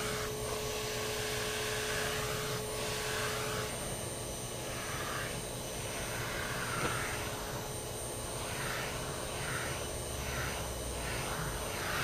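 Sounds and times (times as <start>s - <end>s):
vacuum cleaner whooshing: 0.0s - 12.0s.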